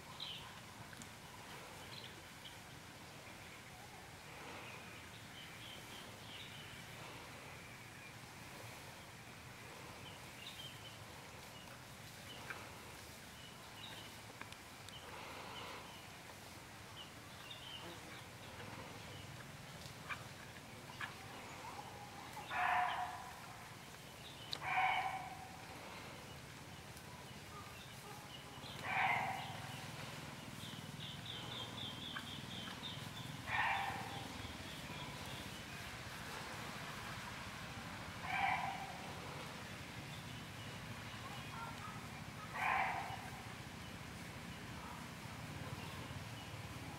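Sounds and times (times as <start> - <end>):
birds chirping: 0.0 - 46.9
low steady rustle: 0.0 - 46.9.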